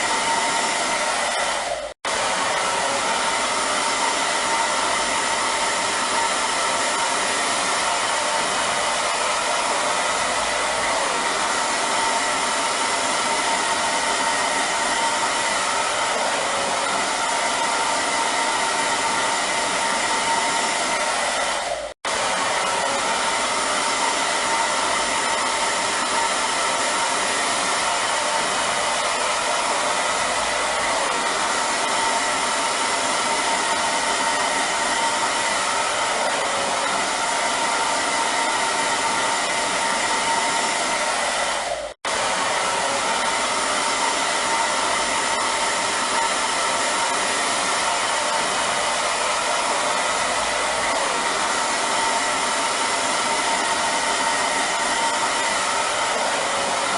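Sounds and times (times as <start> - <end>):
hair dryer blowing: 0.0 - 56.9.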